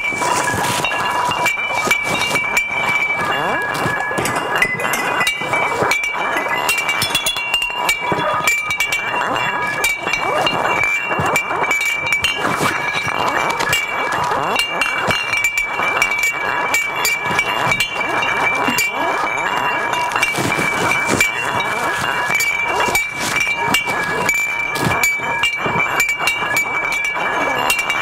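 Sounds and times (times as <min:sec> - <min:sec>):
cans clinking and rattling: 0:00.0 - 0:28.0
steady high ringing tone: 0:00.0 - 0:28.0.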